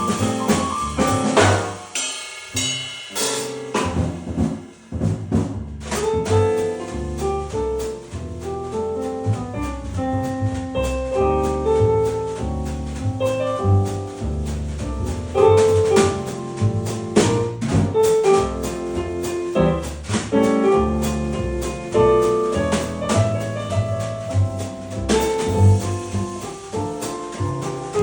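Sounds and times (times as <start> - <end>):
instrumental music with beat: 0.0 - 28.0.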